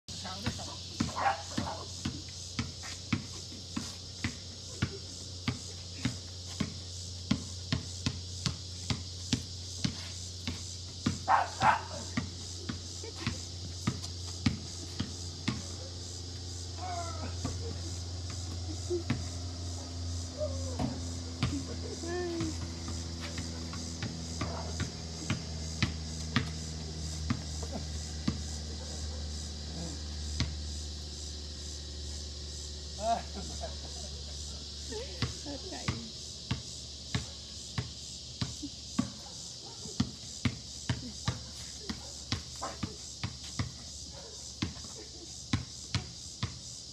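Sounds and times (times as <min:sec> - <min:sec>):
basketball bouncing on concrete: 0:00.1 - 0:16.2, 0:16.8 - 0:28.9, 0:35.2 - 0:46.7.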